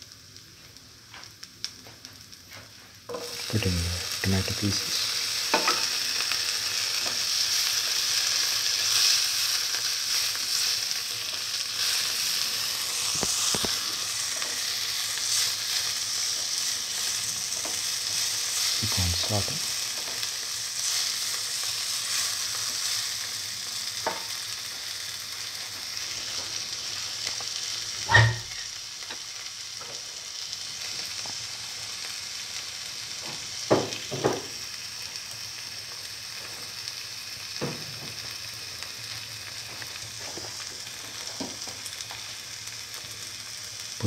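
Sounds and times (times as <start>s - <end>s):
vegetables sizzling in oil: 0.0s - 44.0s.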